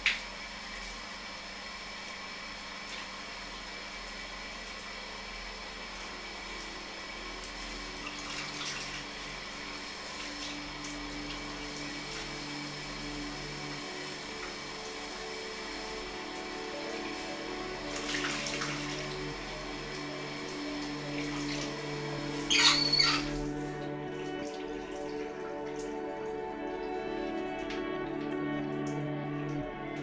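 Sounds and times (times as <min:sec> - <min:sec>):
running water: 0:00.0 - 0:30.0.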